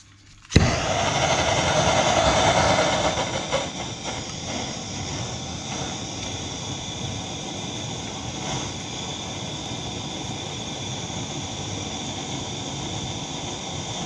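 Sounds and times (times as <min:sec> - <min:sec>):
blowtorch flame hissing: 0:00.4 - 0:14.0
blowtorch ignition click: 0:00.4 - 0:14.0.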